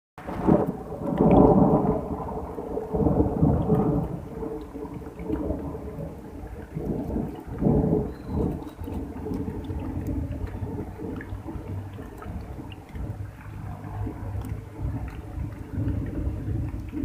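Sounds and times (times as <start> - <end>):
light drizzle of rain: 0.2 - 17.0
thunder rumbling: 0.2 - 17.0.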